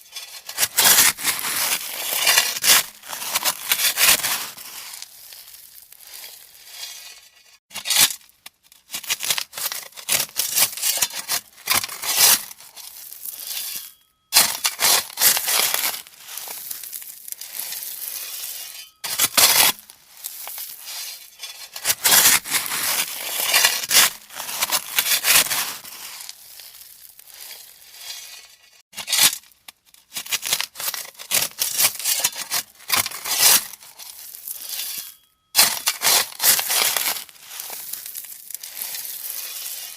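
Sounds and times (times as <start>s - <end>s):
shovel scraping through gravel: 0.0s - 8.3s, 8.9s - 29.5s, 30.2s - 39.9s.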